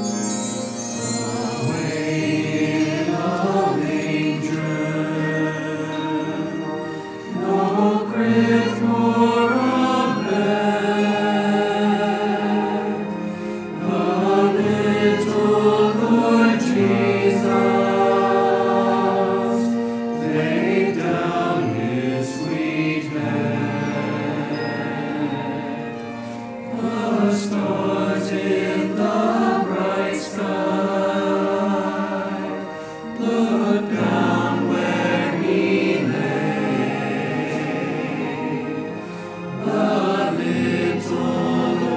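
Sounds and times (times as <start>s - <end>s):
choir singing with orchestra: 0.0s - 41.9s.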